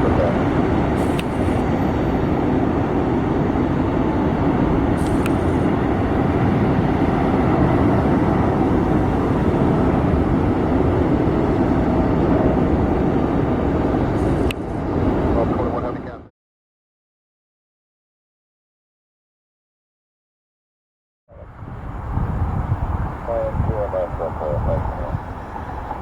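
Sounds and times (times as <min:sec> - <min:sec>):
jet engines running: 0:00.0 - 0:16.3, 0:21.3 - 0:26.0.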